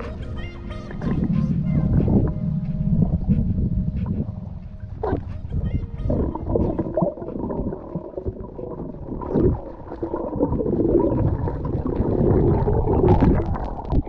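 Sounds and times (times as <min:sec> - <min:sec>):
wavering moaning tones: 0:00.0 - 0:13.8
underwater rumble and water rush: 0:00.0 - 0:14.0.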